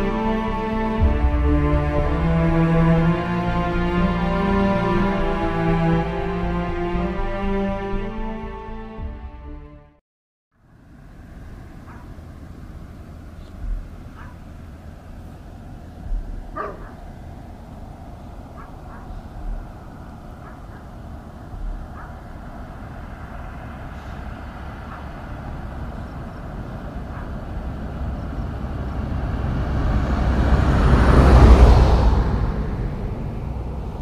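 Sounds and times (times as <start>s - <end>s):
vehicle passing by: 0.0s - 9.1s, 10.6s - 34.0s
low outdoor rumble: 0.0s - 9.6s, 10.6s - 34.0s.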